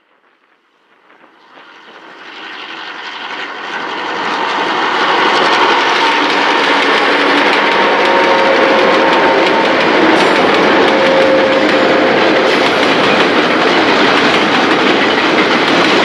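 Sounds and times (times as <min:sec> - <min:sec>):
diesel locomotive engines droning: 0:00.0 - 0:16.0
rail noise: 0:00.0 - 0:16.0.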